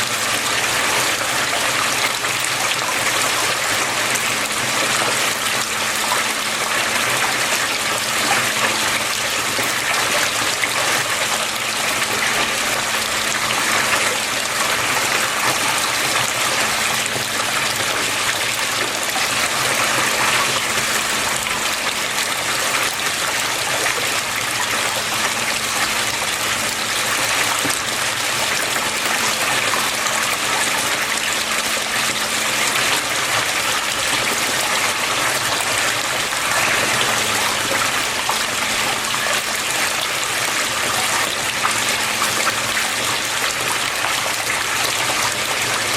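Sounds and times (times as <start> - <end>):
water flowing and splashing: 0.0 - 45.9.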